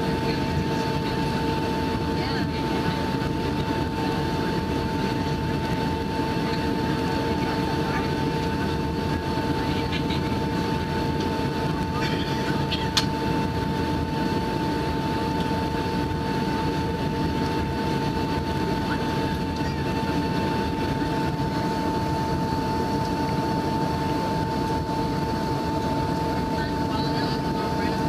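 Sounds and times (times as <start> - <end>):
airliner cabin engine rumble: 0.0 - 28.0
steady whine: 0.0 - 28.0.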